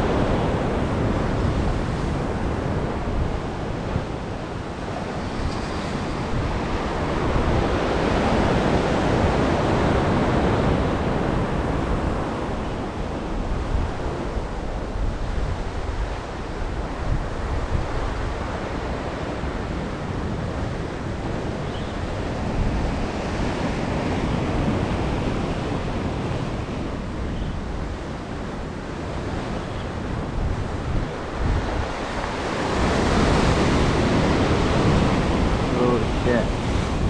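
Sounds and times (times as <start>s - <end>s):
ocean surf breaking: 0.0s - 37.0s
wind buffeting microphone: 0.0s - 37.0s.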